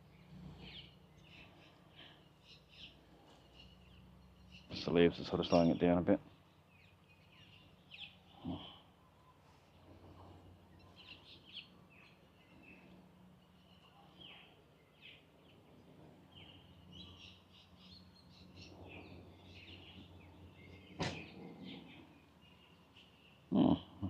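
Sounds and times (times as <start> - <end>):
faint birds chirping: 0.0 - 24.0
steady low hum: 0.0 - 24.0.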